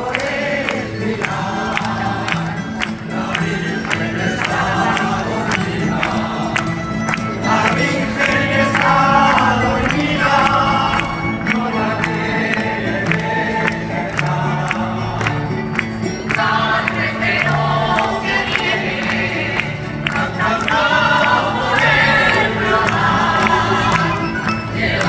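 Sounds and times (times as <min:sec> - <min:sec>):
group of voices singing: 0:00.0 - 0:25.0
guitars strumming chords: 0:00.0 - 0:25.0.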